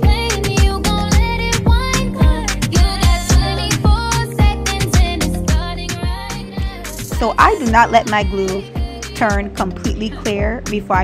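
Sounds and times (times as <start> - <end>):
music with steady beat: 0.0 - 11.0
sung melody: 0.6 - 11.0.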